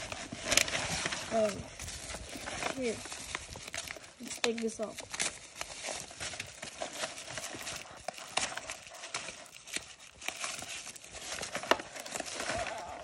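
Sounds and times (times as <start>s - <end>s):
paper wrapping rustling: 0.0s - 13.0s.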